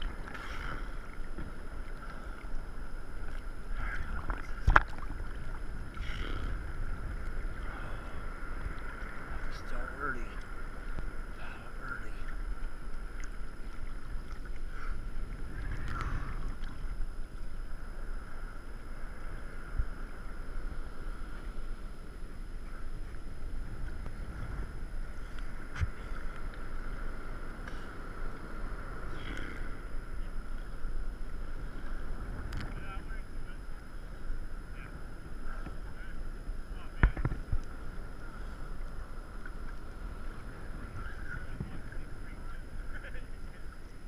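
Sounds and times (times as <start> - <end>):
hiss of water and wind: 0.0 - 44.0
water lapping and splashing: 0.0 - 44.0.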